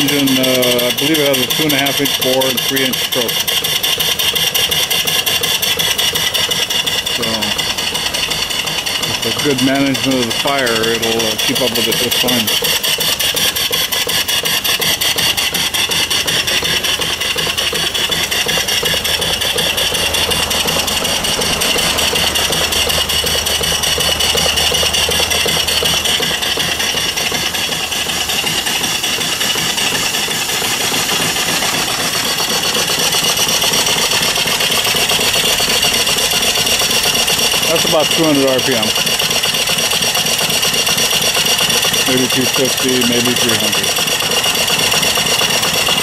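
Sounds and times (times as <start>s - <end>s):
steam engine exhaust chuffs: 0.0s - 46.0s.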